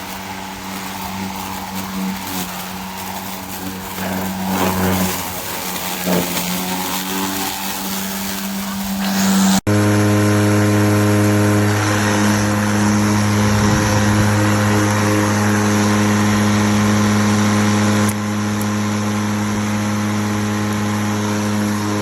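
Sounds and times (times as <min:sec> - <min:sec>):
electric lawn mower running: 0:00.0 - 0:22.0.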